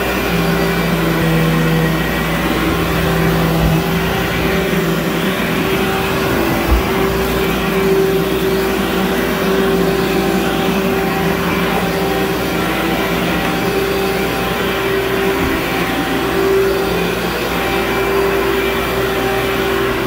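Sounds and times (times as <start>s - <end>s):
carpet extractor motor drone: 0.0s - 20.0s.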